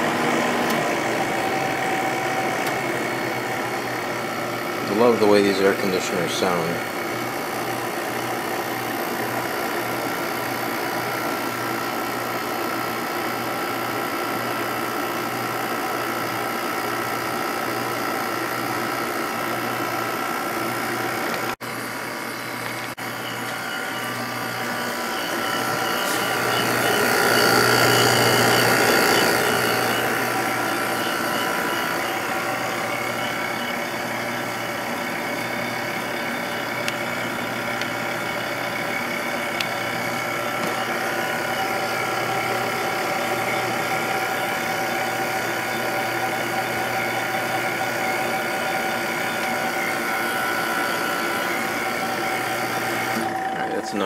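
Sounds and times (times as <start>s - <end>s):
air conditioner fan: 0.0s - 54.0s
compressor humming: 0.0s - 54.0s.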